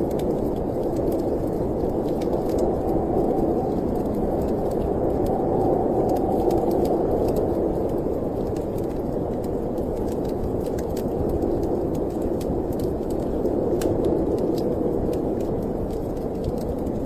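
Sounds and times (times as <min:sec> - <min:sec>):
storm wind blowing: 0:00.0 - 0:17.0
wood fire crackling: 0:00.0 - 0:17.0.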